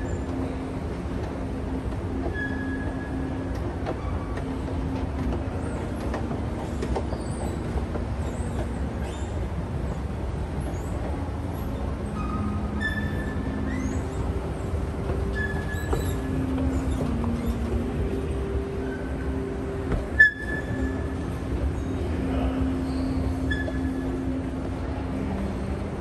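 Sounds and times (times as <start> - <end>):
escalator mechanical rumble: 0.0 - 26.0.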